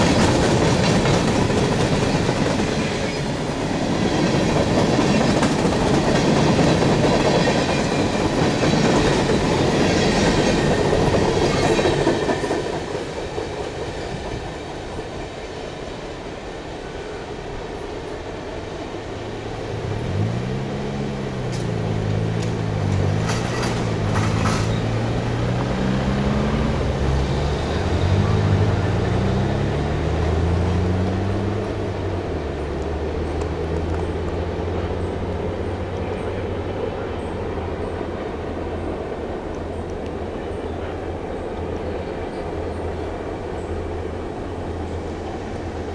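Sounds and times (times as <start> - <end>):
train wheels clattering over rails: 0.0 - 15.2, 21.3 - 45.9.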